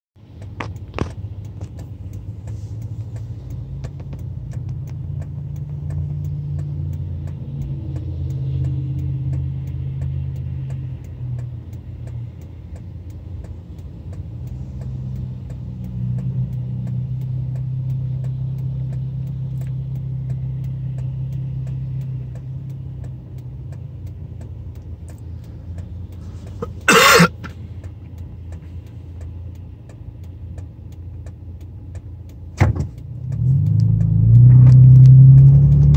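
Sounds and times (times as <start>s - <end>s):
vehicles passing: 0.2s - 35.9s
car engine idling: 0.4s - 35.9s.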